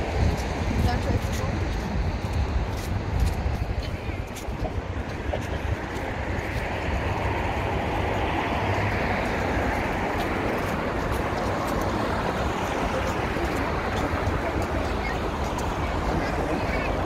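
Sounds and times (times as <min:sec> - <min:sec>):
city traffic roar: 0:00.0 - 0:17.0.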